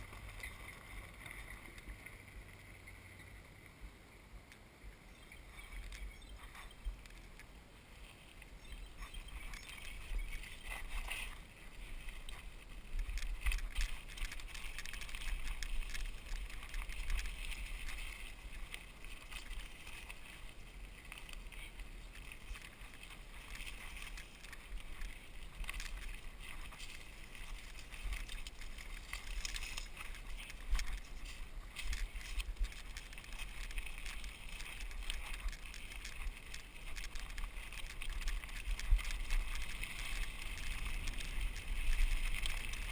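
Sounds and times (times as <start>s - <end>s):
bike rattling and clicking: 0.0s - 3.4s, 5.5s - 7.5s, 8.4s - 42.9s
wind rumbling on microphone: 0.0s - 42.9s
tyres crunching on gravel: 8.2s - 42.9s.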